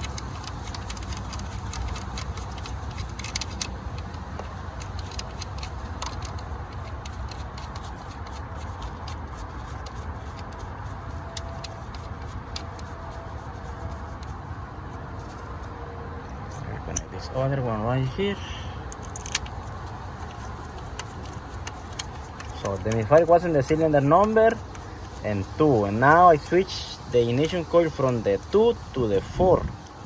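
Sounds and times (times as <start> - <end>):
light clicks and taps: 0.0 - 14.4, 18.9 - 30.0
low background hum: 0.0 - 30.0.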